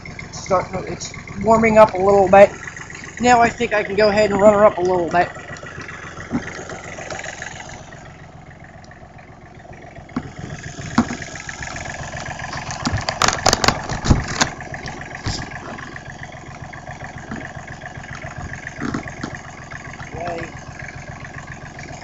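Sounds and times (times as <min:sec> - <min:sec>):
small diesel engine running: 0:00.0 - 0:22.0.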